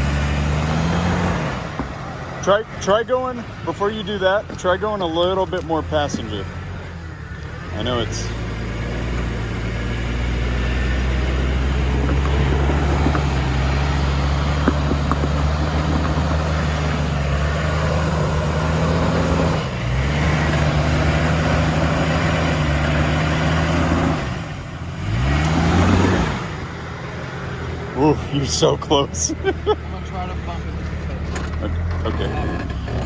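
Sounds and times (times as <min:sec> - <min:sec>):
off-road vehicle engine at low revs: 0:00.0 - 0:33.0.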